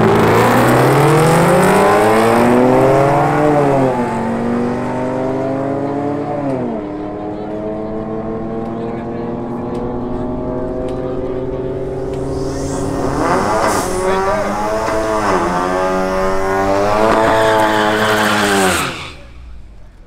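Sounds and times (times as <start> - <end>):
racing car engine at full throttle: 0.0 - 20.0.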